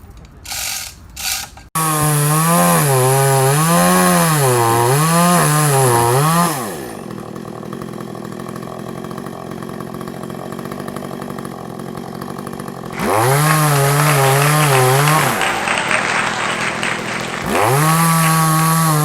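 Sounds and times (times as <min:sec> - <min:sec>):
chainsaw revving and idling: 0:00.5 - 0:19.0.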